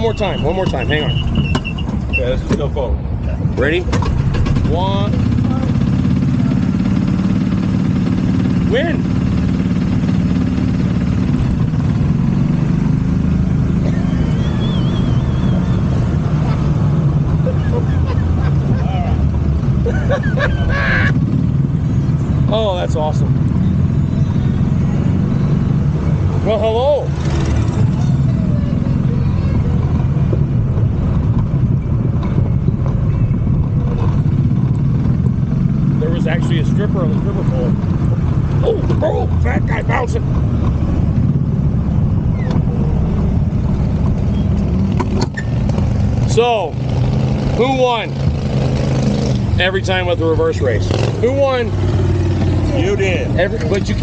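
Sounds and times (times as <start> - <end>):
golf cart engines humming: 0.0 - 54.0.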